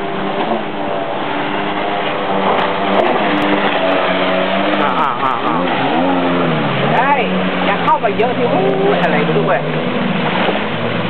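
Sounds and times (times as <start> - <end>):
watercraft engine high-revving: 0.0 - 11.0.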